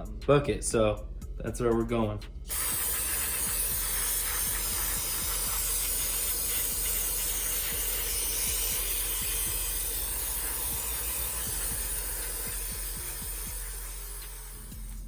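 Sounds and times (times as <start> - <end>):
aerosol can spraying hiss: 2.5 - 15.0.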